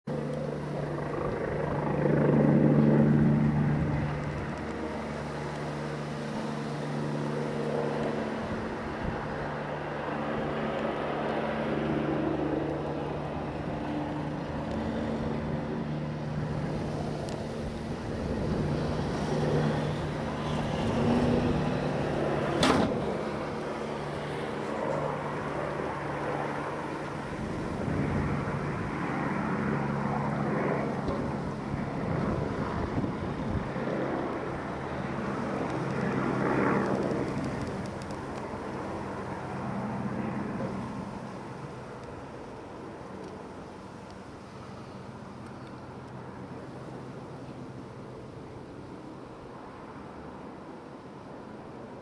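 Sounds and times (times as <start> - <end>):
helicopter rotor and engine hum: 0.0 - 52.0.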